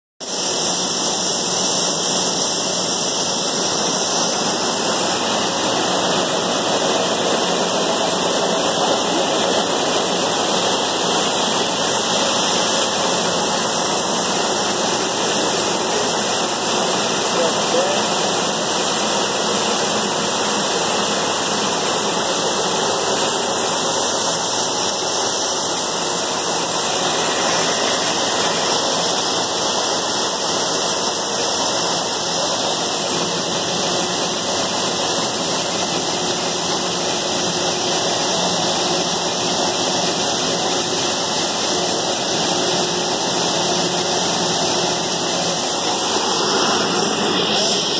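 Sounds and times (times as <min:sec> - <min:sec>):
grading machine running: 0:00.2 - 0:47.9.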